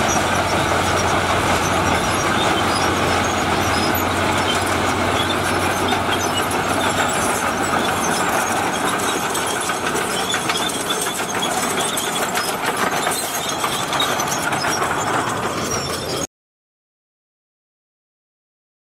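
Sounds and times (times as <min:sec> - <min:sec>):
bulldozer diesel engine: 0:00.0 - 0:16.3
steel tracks clanking: 0:00.0 - 0:16.3.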